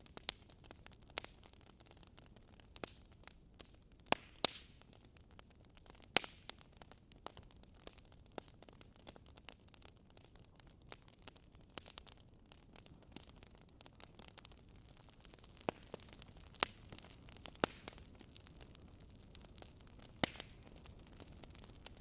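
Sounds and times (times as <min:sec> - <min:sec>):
firewood crackling: 0:00.0 - 0:22.0.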